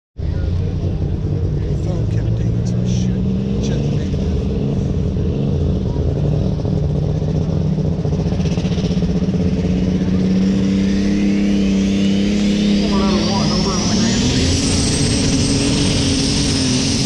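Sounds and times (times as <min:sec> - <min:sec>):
high whine climbing in pitch: 0:00.2 - 0:17.0
tractor engine at high revs: 0:00.2 - 0:17.0.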